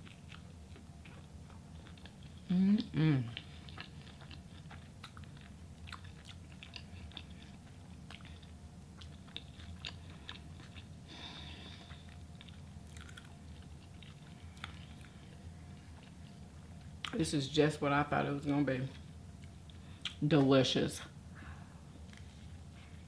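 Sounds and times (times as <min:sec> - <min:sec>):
person chewing food: 0:00.0 - 0:17.2, 0:18.9 - 0:20.2, 0:22.0 - 0:23.0
low room hum: 0:00.0 - 0:23.0.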